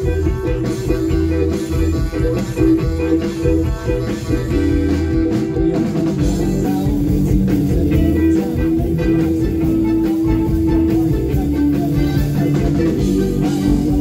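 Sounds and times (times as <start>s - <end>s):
bass guitar: 0.0s - 14.0s
drum kit: 0.0s - 14.0s
electric guitars sustained notes: 0.0s - 14.0s.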